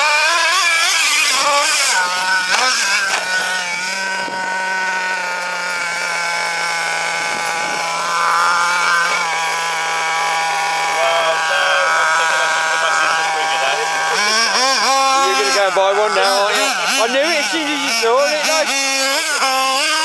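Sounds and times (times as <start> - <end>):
nitro engine revving: 0.0 - 20.0.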